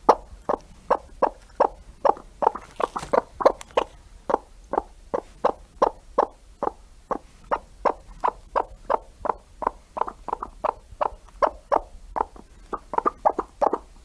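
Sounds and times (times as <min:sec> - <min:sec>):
farm animal calling: 0:00.0 - 0:14.0.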